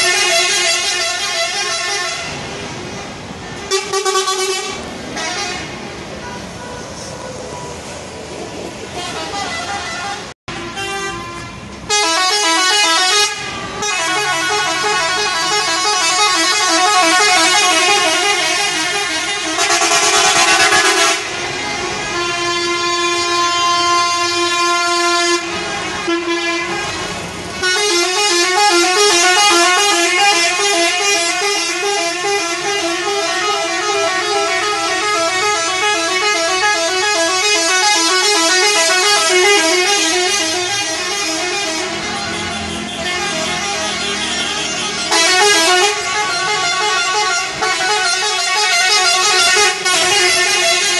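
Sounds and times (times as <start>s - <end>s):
bus air horn alternating notes: 0.0s - 7.6s, 8.9s - 50.9s.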